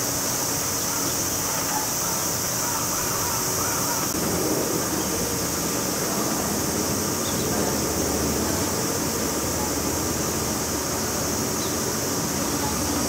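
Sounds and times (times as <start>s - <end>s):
cicada chorus drone: 0.0s - 13.0s.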